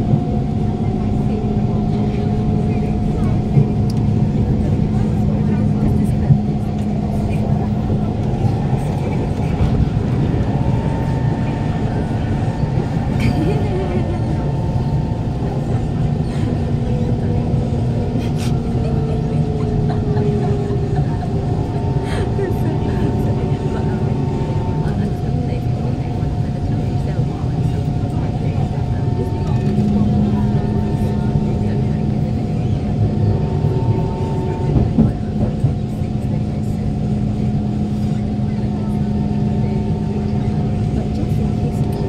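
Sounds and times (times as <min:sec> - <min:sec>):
traction motors humming: 0:00.0 - 0:42.0
train wheels rumbling on rails: 0:00.0 - 0:42.0.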